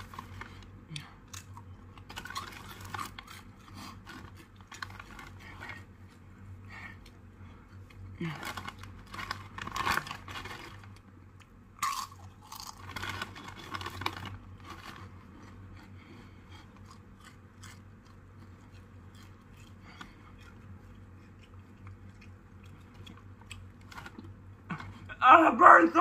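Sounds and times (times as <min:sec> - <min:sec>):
crunchy chip being chewed: 0:00.0 - 0:05.8, 0:07.9 - 0:25.1.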